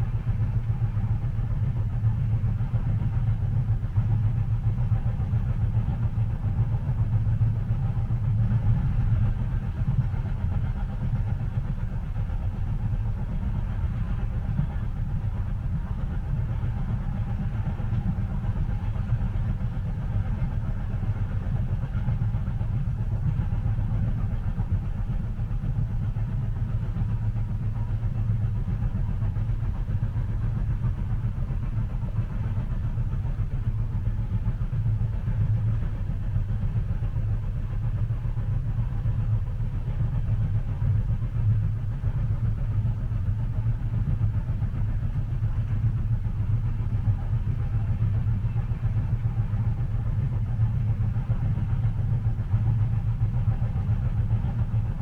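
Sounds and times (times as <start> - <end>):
train rumbling from inside: 0.0 - 55.0.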